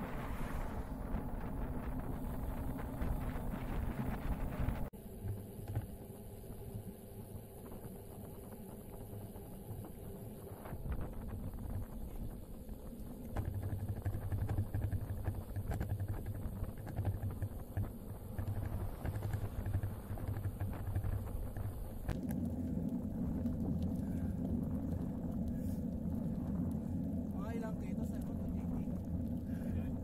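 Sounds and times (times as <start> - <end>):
wind buffeting microphone: 0.0 - 4.9, 7.6 - 30.0
bike tyre rumble on asphalt: 0.0 - 30.0.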